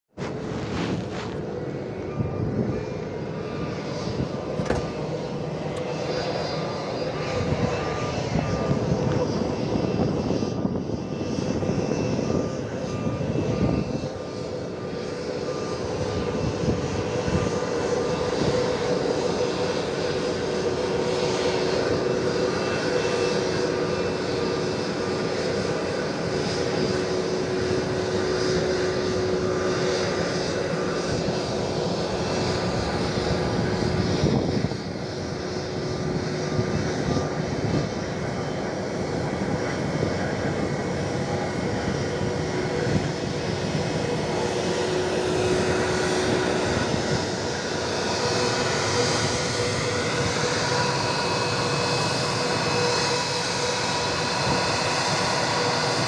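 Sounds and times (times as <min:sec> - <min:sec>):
jet engines running: 0:00.1 - 0:56.0.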